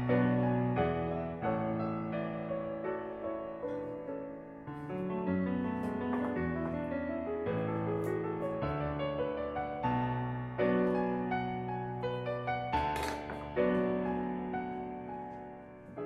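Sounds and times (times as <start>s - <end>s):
piano melody with sustained chords: 0.0s - 16.0s.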